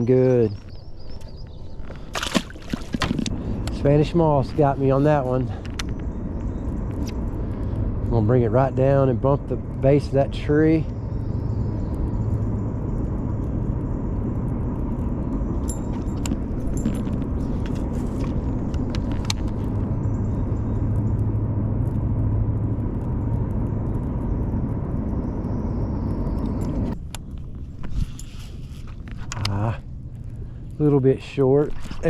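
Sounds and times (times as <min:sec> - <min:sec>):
boat motor humming: 0:00.0 - 0:32.0.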